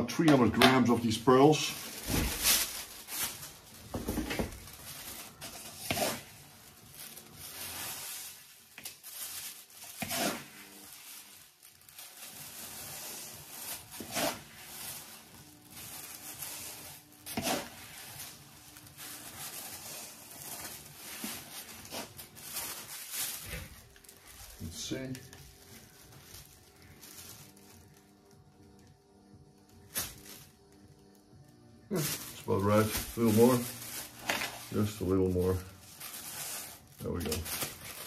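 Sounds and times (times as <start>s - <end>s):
plastic bag rustling: 0.0s - 38.0s.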